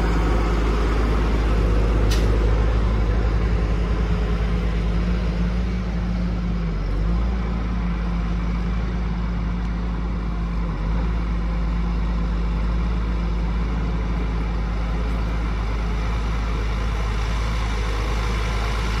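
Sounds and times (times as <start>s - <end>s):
tractor diesel engine droning: 0.0s - 19.0s.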